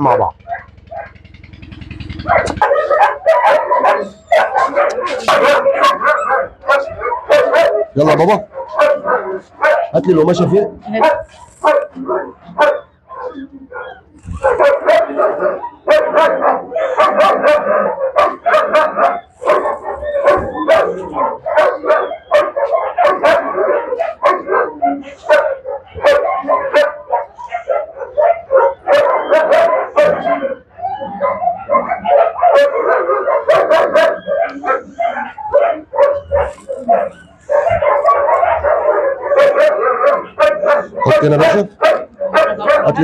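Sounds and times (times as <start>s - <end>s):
dogs barking and yelping: 0.0s - 43.0s.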